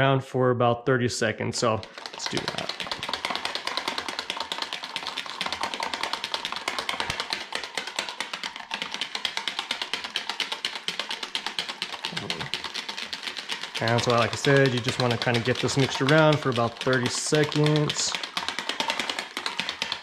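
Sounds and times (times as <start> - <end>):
whisk clicking against plastic container: 1.6 - 20.0.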